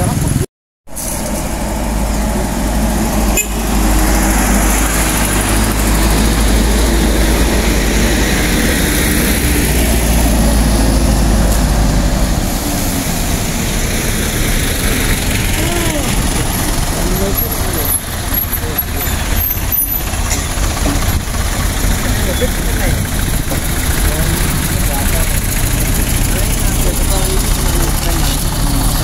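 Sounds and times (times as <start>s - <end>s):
diesel truck engine rumble: 0.0s - 29.0s.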